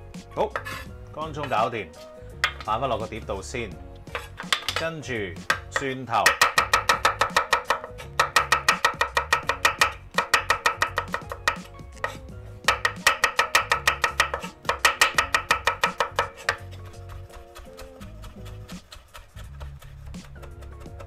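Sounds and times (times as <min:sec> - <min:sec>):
knife chopping on wooden board: 0:04.1 - 0:21.0.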